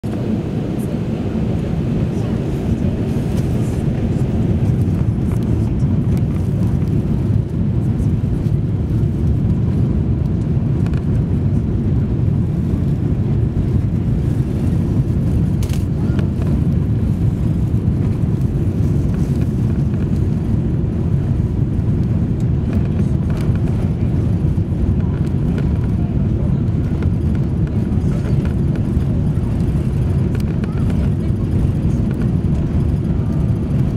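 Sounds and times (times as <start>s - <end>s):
airliner cabin rumble: 0.0s - 33.9s.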